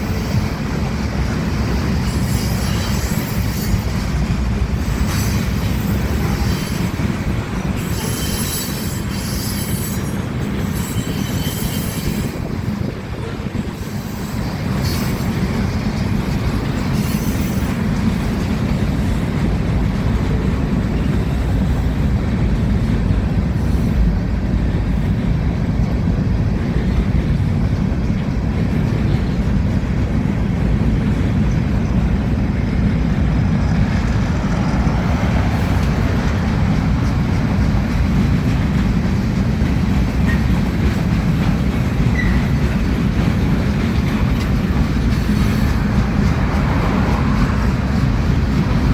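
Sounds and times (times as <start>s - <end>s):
freight train wheels on rail: 0.0s - 48.9s.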